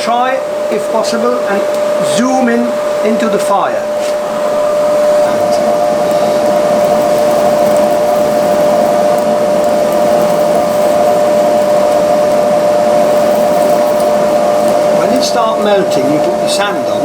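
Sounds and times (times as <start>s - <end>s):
fan whine: 0.0s - 17.0s
forge blower air blast: 0.0s - 17.0s.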